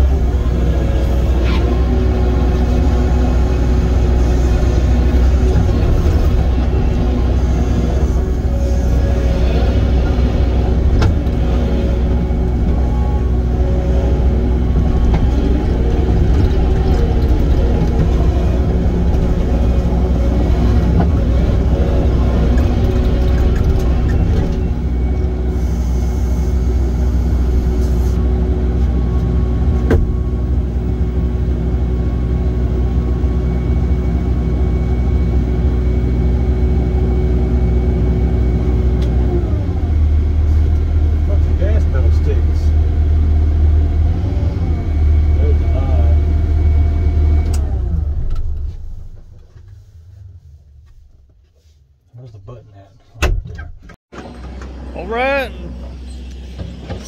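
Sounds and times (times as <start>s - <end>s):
heavy equipment engine running: 0.0s - 50.8s, 53.8s - 57.0s.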